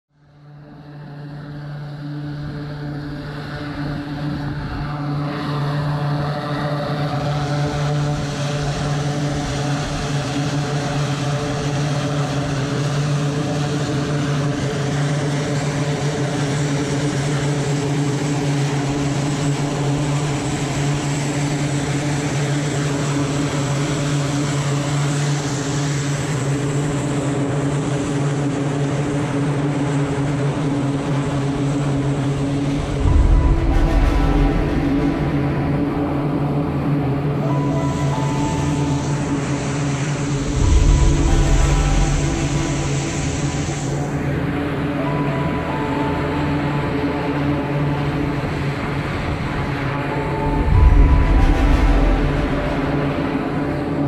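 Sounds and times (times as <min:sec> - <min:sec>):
turboprop engines droning: 0:00.2 - 0:54.0.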